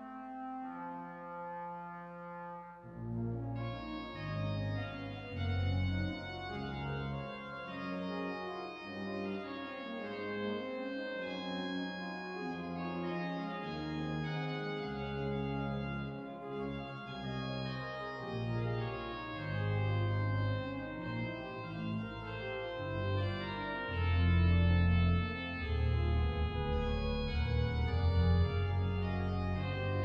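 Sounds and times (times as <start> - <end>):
organ pedal bass: 0.0 - 30.0
pipe organ chords: 0.0 - 30.0.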